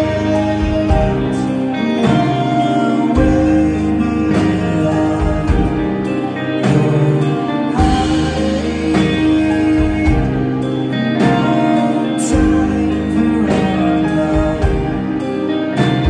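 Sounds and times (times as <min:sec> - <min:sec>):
bass line: 0:00.0 - 0:16.0
electric guitar: 0:00.0 - 0:16.0
keyboard: 0:00.0 - 0:16.0
steel guitar: 0:00.0 - 0:16.0.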